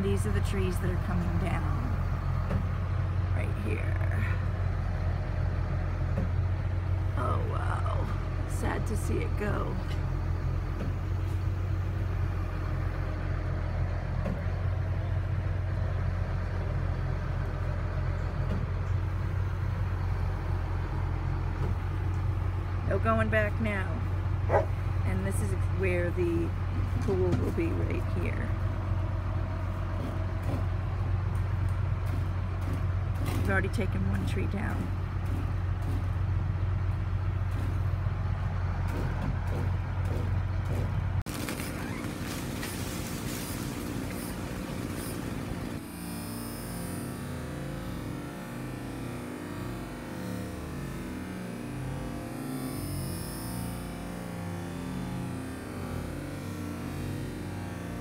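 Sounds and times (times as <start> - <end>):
truck engine rumbling: 0.0 - 58.0.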